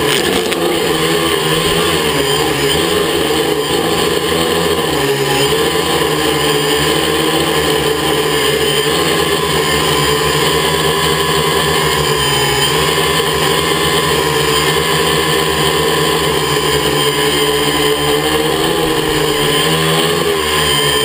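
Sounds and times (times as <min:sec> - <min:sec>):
quadcopter propellers whirring: 0:00.0 - 0:21.0.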